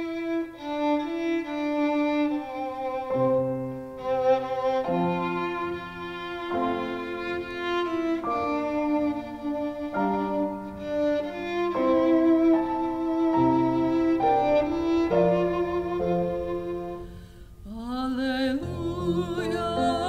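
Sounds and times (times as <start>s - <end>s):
violin over sustained chords: 0.0s - 20.0s.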